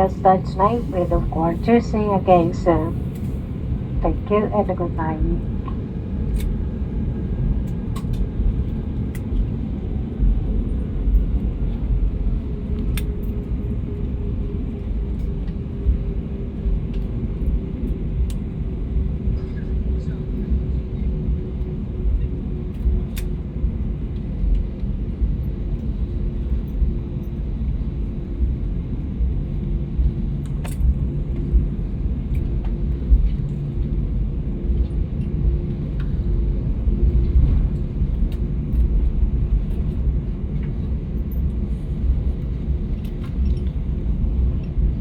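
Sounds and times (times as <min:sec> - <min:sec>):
airliner cabin rumble: 0:00.0 - 0:45.0
faint pulsing hum: 0:00.0 - 0:45.0.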